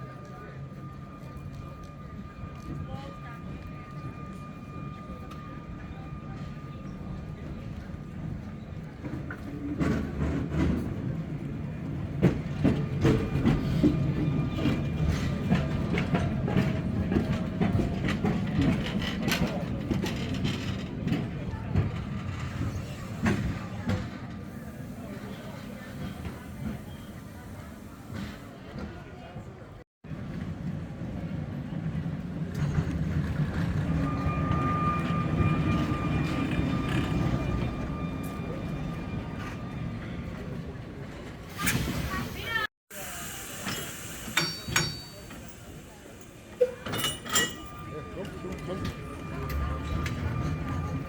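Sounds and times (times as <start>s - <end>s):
tram rumbling on rails: 0.0s - 51.0s.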